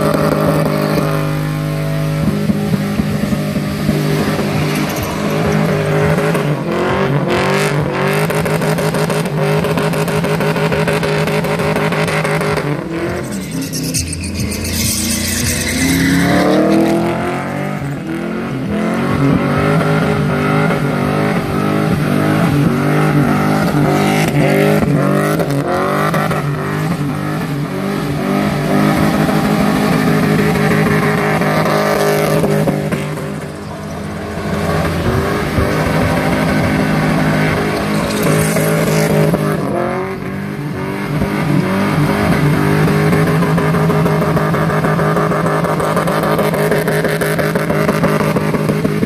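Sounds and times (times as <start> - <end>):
car engine revving high: 0.0 - 49.0.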